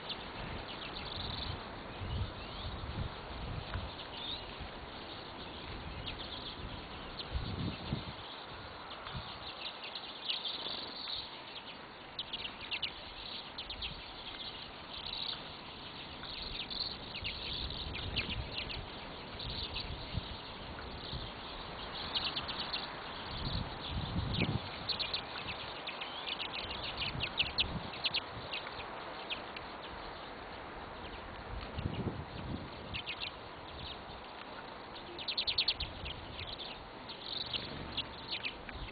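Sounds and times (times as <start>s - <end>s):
background hiss: 0.0s - 38.9s
small birds chirping: 0.0s - 38.9s.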